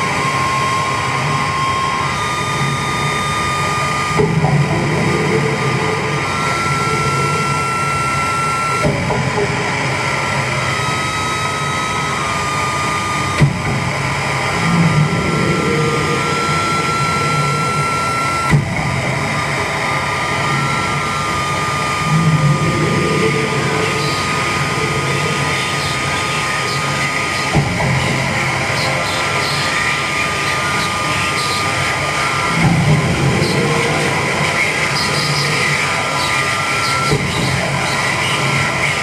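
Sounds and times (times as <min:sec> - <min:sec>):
harsh electronic noise wall: 0:00.0 - 0:39.0
high held electronic tone: 0:00.0 - 0:39.0.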